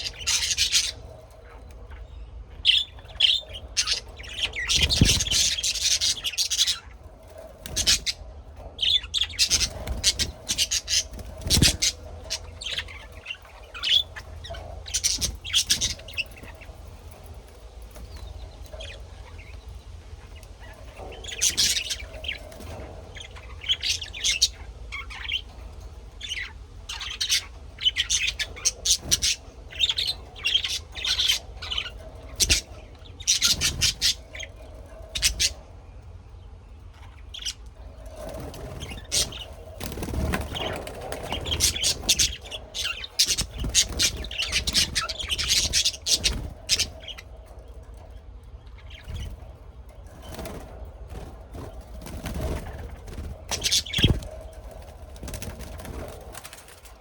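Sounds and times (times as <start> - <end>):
birds chirping and squawking: 0.0 - 57.0.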